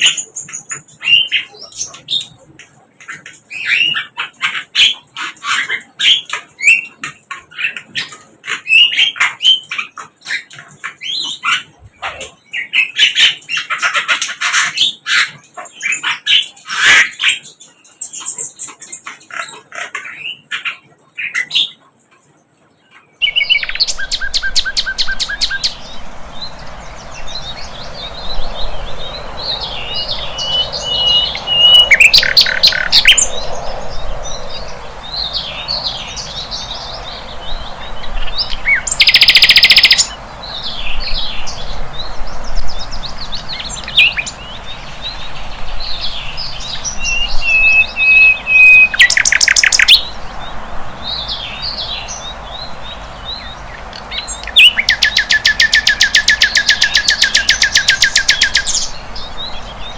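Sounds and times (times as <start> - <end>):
flycatcher twittering song: 0.0 - 22.0, 22.9 - 59.9.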